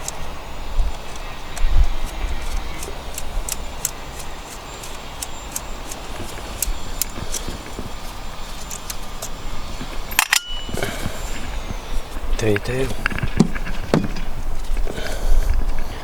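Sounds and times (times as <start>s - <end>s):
hand tools and metal parts clicking: 0.0s - 15.9s.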